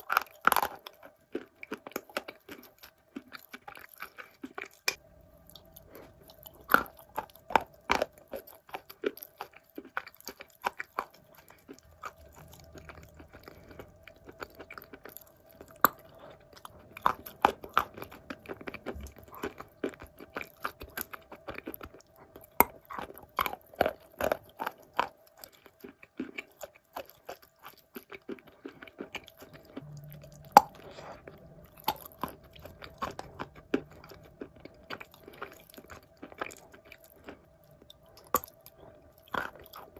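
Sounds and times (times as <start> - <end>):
clay being chewed: 0.0 - 39.9
faint steady hum: 0.0 - 39.9.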